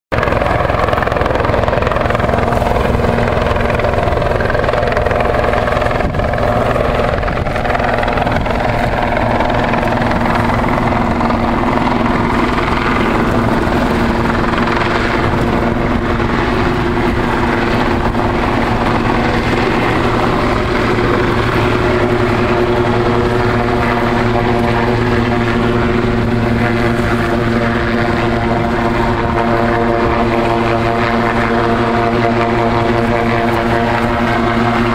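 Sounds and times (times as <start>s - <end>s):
helicopter drone: 0.1s - 34.9s.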